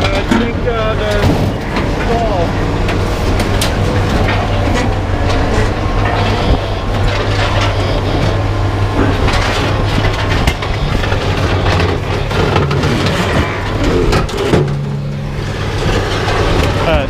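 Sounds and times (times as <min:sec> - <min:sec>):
heavy equipment engine humming: 0:00.0 - 0:17.0
scrap metal clatter: 0:00.0 - 0:17.0.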